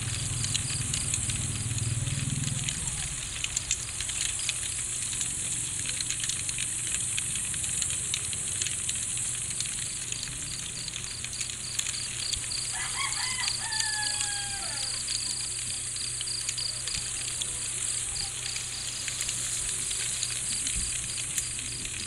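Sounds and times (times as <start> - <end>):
constant high hiss: 0.0 - 22.0
faint clicks: 0.0 - 22.0
night insects chirping: 0.0 - 22.0.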